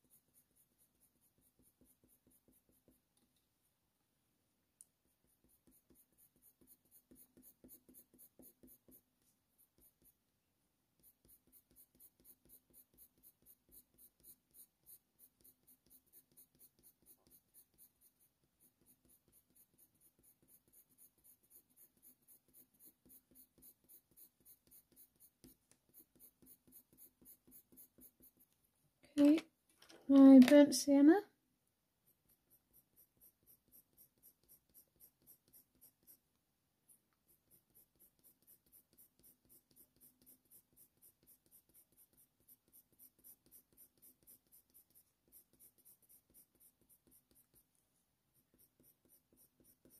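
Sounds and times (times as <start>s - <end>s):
pencil scratching on paper: 0.0s - 3.2s, 5.0s - 10.3s, 10.9s - 28.6s, 32.0s - 49.9s.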